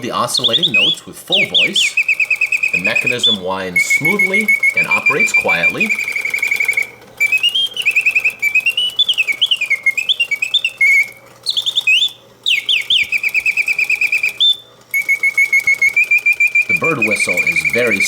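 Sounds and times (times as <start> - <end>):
mechanical bird whistle trilling: 0.0 - 18.0.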